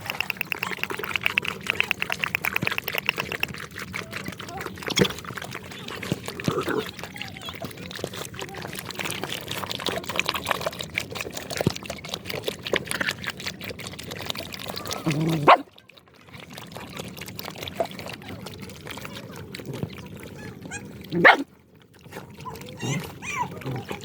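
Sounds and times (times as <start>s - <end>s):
dog making small sounds: 0.0s - 24.0s
water pouring and trickling: 0.0s - 24.0s.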